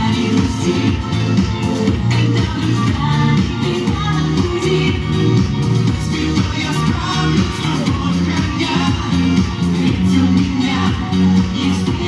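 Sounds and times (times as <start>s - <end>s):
music with steady beat over loudspeakers: 0.0s - 12.0s.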